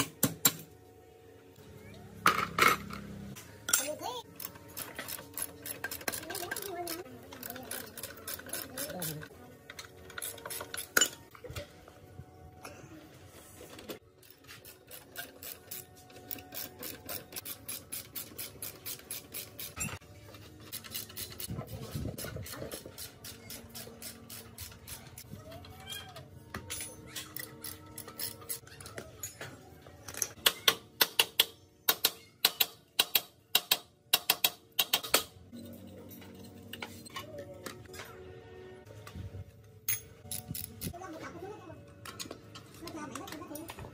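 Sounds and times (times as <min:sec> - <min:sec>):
hand tools tapping and scraping metal: 0:00.0 - 0:00.8, 0:02.2 - 0:38.3, 0:38.9 - 0:43.9
faint background music: 0:00.0 - 0:43.9.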